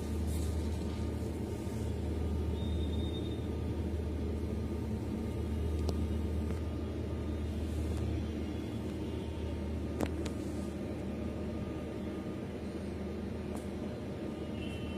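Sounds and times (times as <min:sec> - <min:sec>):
low machine hum: 0:00.0 - 0:14.9.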